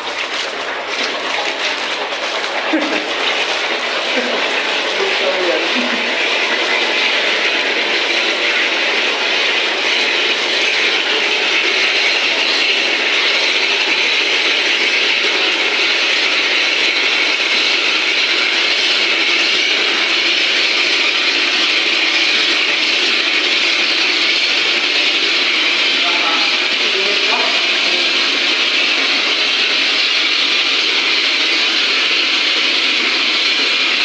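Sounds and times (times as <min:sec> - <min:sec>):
steam hissing from pipe: 0:02.7 - 0:34.0.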